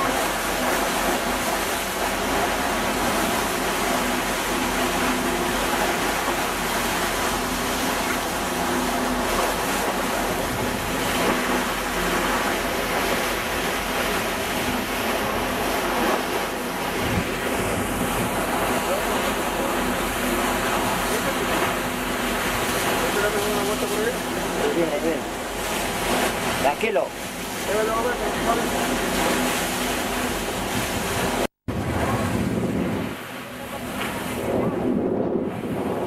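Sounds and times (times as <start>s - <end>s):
sea water rushing: 0.0s - 36.0s
wind: 0.0s - 36.0s.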